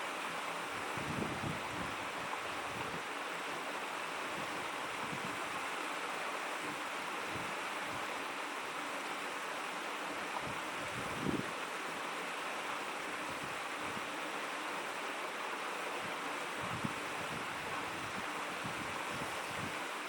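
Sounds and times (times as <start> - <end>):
babbling stream: 0.0 - 20.0.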